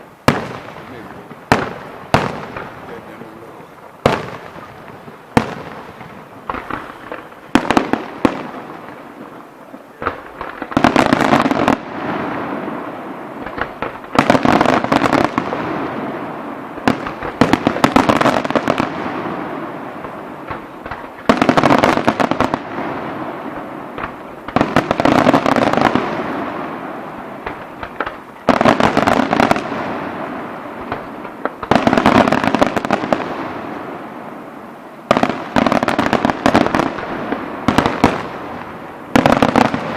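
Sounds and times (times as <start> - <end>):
fireworks bangs with crackling: 0.0 - 39.9.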